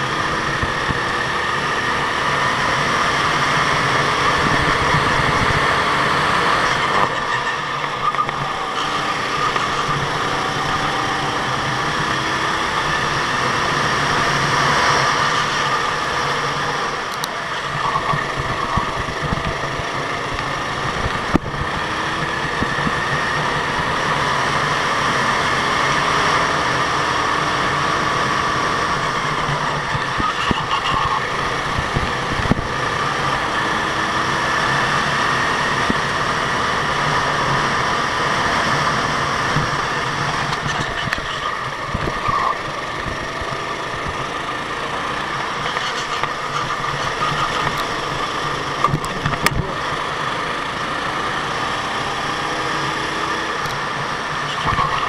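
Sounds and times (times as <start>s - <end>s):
go-kart engines revving: 0.0s - 55.0s.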